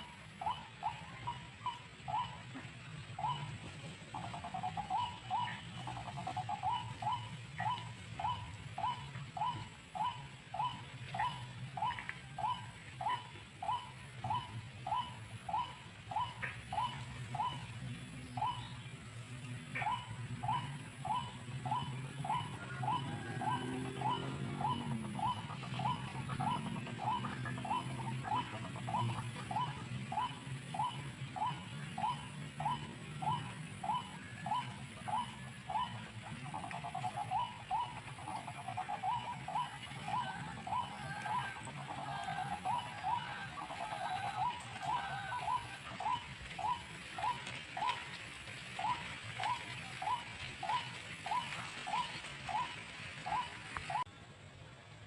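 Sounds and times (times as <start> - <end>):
waterhen calling: 0.0 - 54.1
steady low hum: 0.0 - 55.0.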